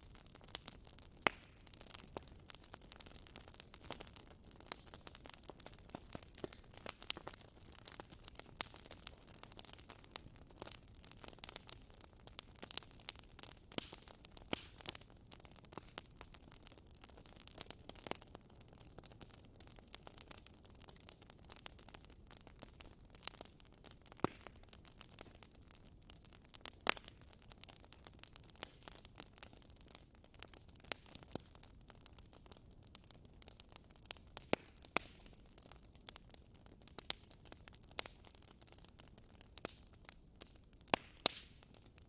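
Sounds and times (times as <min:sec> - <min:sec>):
crackling and sharp clicks: 0:00.2 - 0:42.0.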